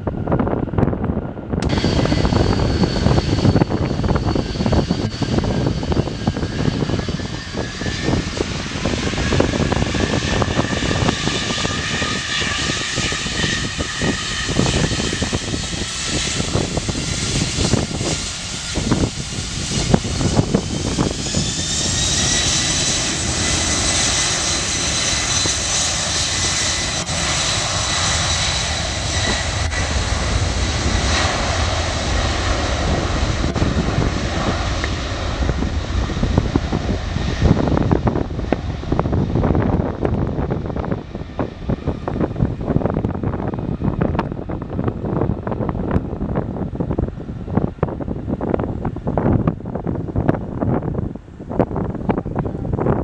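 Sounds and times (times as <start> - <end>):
jet engines whining: 0.0 - 53.0
low rumble: 0.0 - 53.0.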